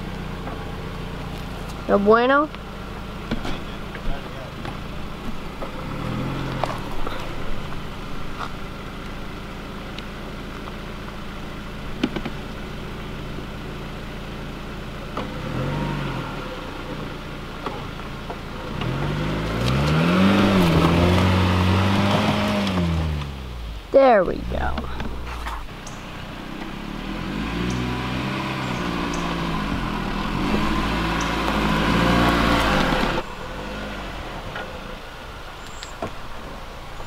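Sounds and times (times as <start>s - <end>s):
car engine pulling under load: 0.0s - 37.0s.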